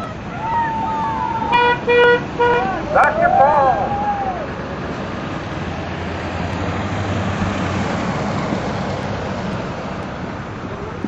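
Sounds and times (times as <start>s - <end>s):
vehicle driving past: 0.2s - 10.3s.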